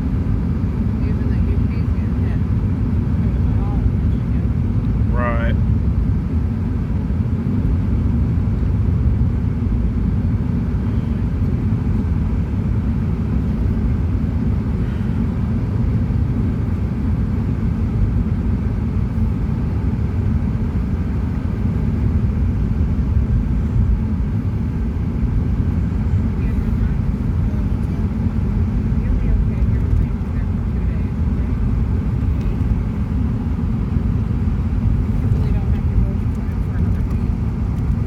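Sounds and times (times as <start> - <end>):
car interior road rumble: 0.0 - 38.0.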